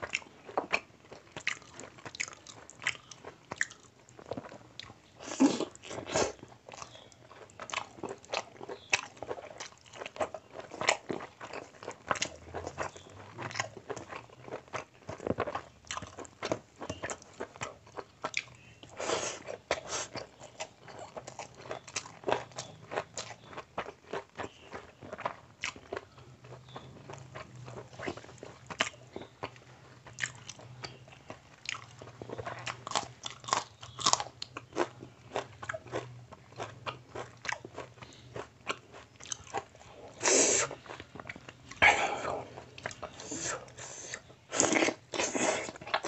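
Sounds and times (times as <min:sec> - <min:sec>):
chewing and mouth smacks: 0:00.0 - 0:46.0.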